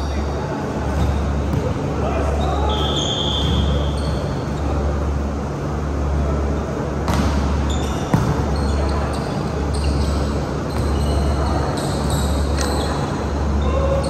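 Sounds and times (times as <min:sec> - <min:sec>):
steady low hum: 0:00.0 - 0:14.0
sneakers squeaking on court: 0:00.1 - 0:04.8, 0:07.1 - 0:14.0.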